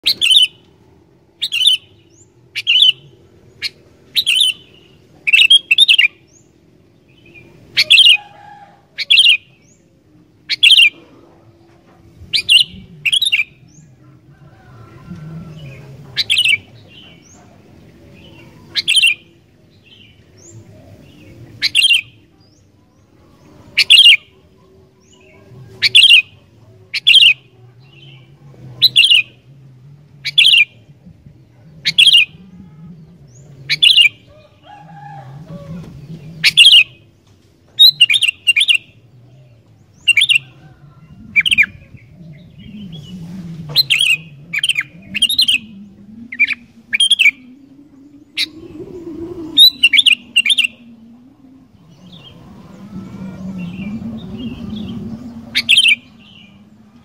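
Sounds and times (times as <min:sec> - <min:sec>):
bird chirping: 0:00.0 - 0:00.7, 0:01.4 - 0:08.4, 0:12.3 - 0:14.6, 0:15.4 - 0:29.4, 0:31.6 - 0:57.0.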